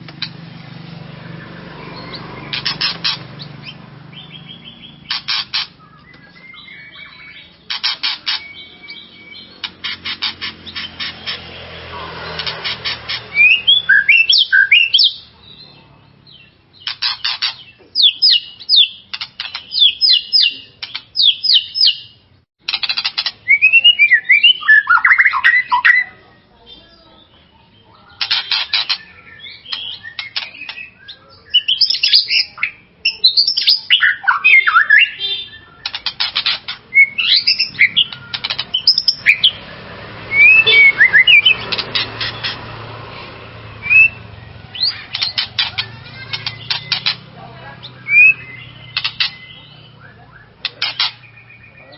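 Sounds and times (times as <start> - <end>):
bird chattering: 0.0 - 51.9
bird whistling: 1.2 - 15.3, 16.3 - 26.2, 28.0 - 39.6, 40.3 - 42.7, 43.7 - 47.2, 47.8 - 51.9.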